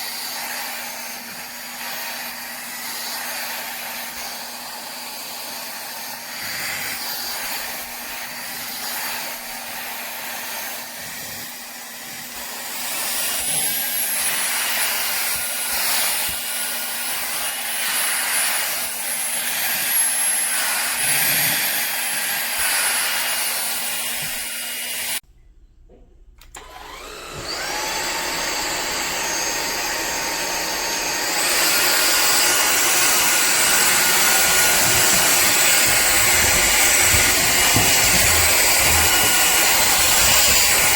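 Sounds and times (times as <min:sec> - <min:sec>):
stick vacuum motor whine: 0:00.0 - 0:25.2, 0:26.4 - 0:40.9.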